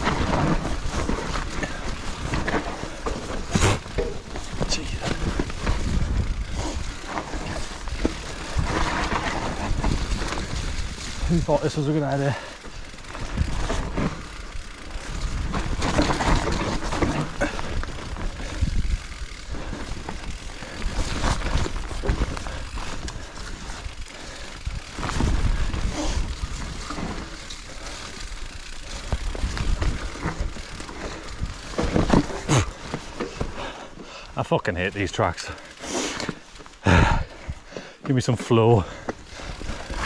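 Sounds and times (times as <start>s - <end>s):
bike clattering over bumps: 0.0s - 40.0s
mountain bike rumbling over rough trail: 0.0s - 40.0s.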